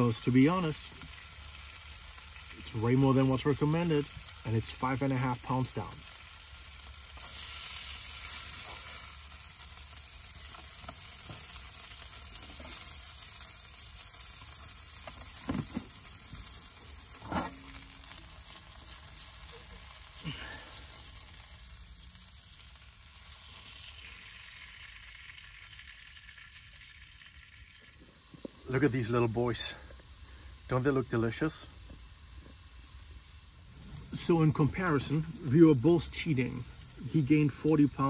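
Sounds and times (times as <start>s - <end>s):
meat sizzling in a frying pan: 0.0s - 38.0s.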